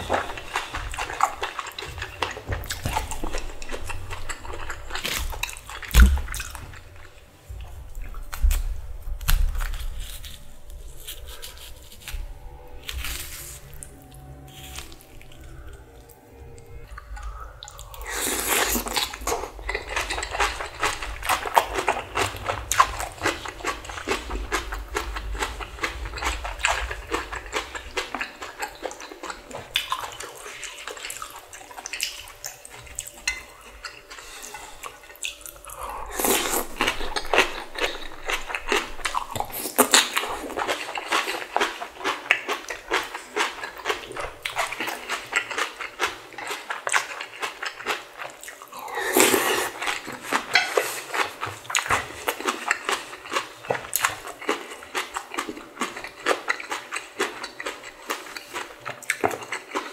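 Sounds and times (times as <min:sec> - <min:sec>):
person slurping and chewing: 0:00.0 - 0:07.1, 0:09.6 - 0:59.9.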